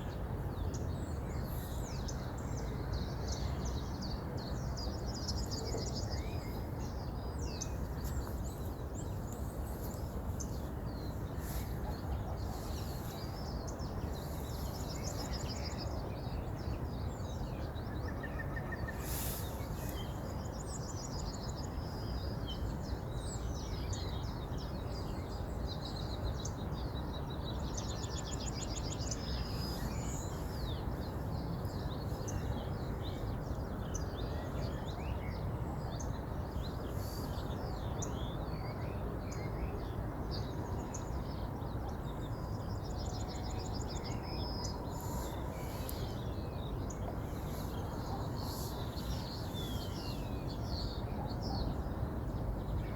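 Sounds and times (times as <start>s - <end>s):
small birds chirping and trilling: 0.0s - 52.9s.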